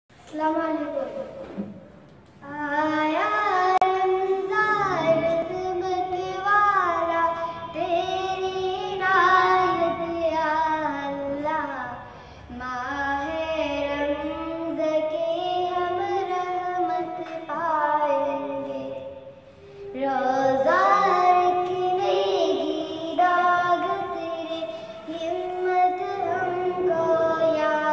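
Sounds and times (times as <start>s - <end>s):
young girl singing: 0.2s - 1.3s, 2.4s - 27.9s.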